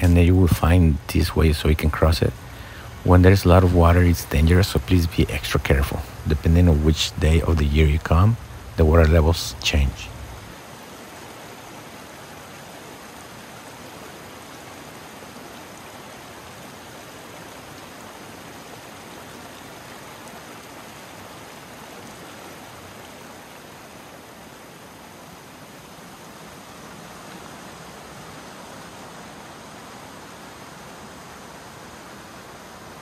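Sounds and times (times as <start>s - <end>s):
creek water rushing over rocks: 0.0s - 33.0s.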